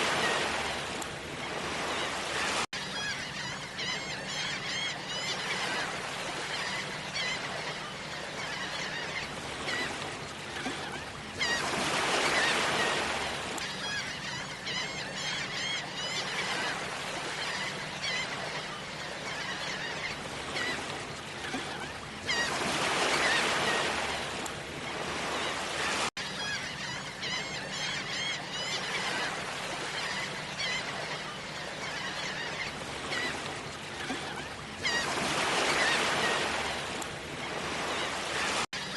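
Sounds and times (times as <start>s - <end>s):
sea waves washing: 0.0s - 26.1s, 26.7s - 38.9s
flock of birds calling: 0.0s - 38.9s.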